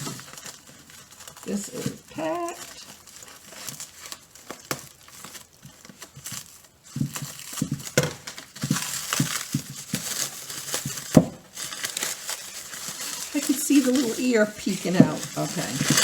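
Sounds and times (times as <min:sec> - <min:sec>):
packing material crinkling: 0:00.0 - 0:16.0.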